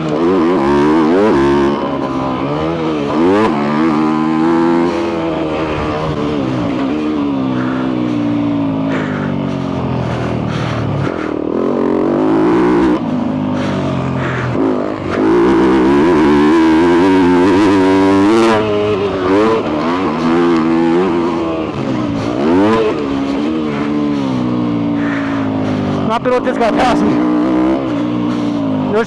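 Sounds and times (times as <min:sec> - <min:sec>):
dirt bike engine revving hard: 0:00.0 - 0:29.0.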